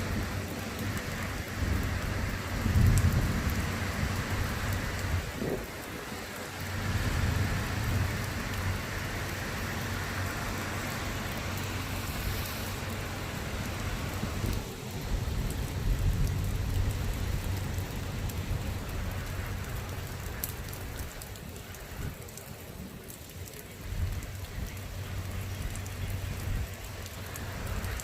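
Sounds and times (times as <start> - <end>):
steady rain: 0.0 - 28.0
thunder rumbling: 0.0 - 28.0.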